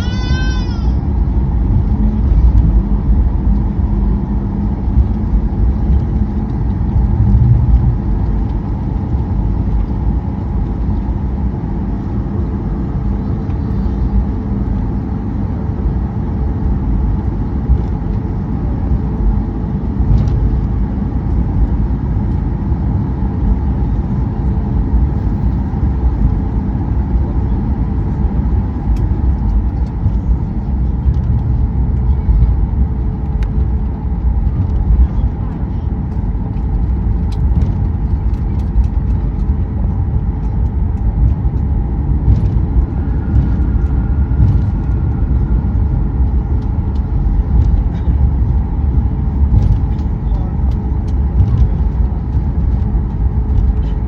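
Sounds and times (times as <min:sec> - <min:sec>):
aircraft cabin rumble: 0:00.0 - 0:54.0
faint constant hum: 0:00.0 - 0:54.0.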